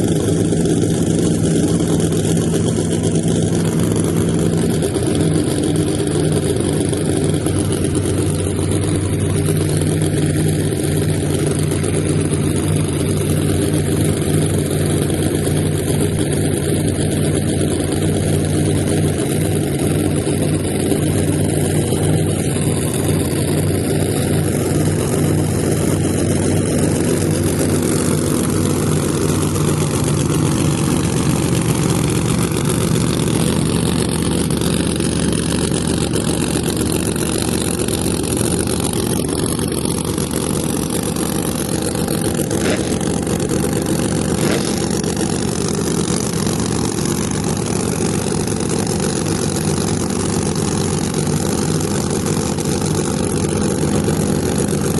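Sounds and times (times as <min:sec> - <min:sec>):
drag car engine idling: 0:00.0 - 0:54.9.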